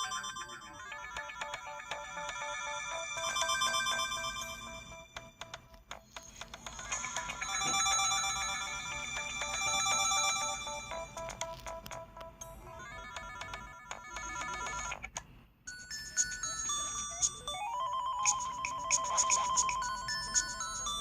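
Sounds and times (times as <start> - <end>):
electronic phone ringtone melody: 0.0 - 15.0, 15.8 - 21.0.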